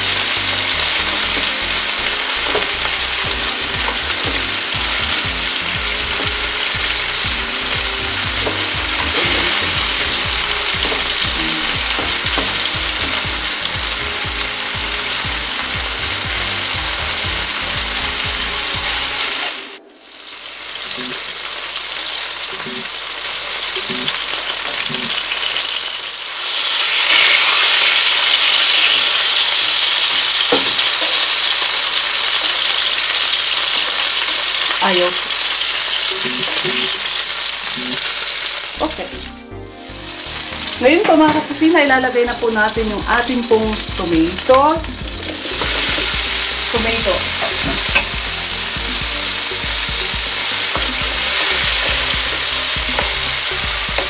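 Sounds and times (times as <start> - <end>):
chicken sizzling in a pan: 0.0 - 39.3, 40.2 - 54.0.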